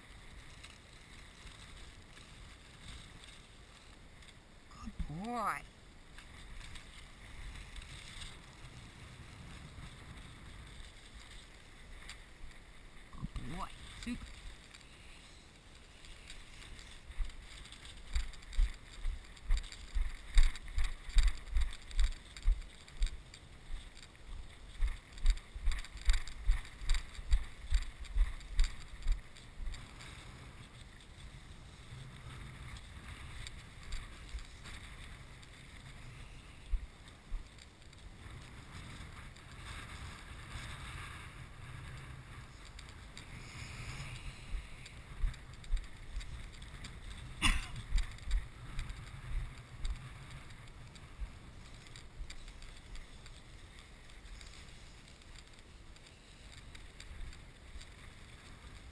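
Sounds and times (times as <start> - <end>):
wind rustling on microphone: 0.0 - 58.9.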